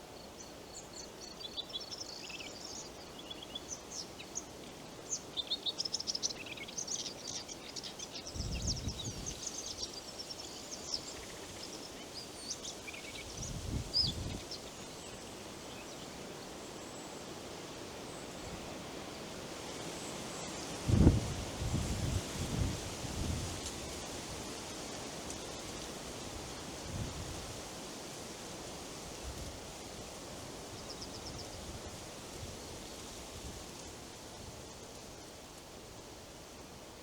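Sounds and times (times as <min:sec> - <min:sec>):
songbirds chirping: 0:00.0 - 0:22.7, 0:29.1 - 0:37.0
soft forest hiss: 0:00.0 - 0:37.0.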